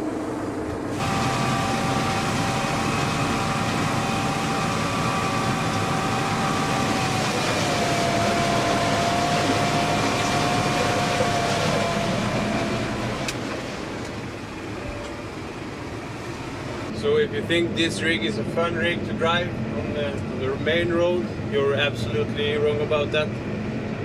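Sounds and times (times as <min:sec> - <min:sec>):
tractor engine running with whine: 0:00.0 - 0:24.0.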